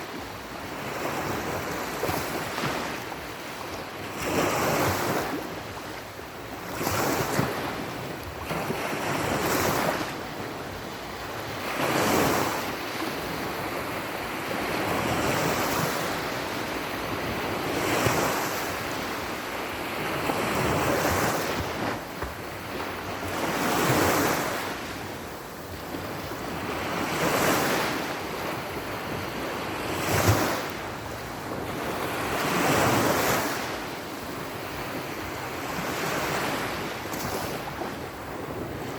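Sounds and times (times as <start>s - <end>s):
waves breaking: 0.8s - 38.9s.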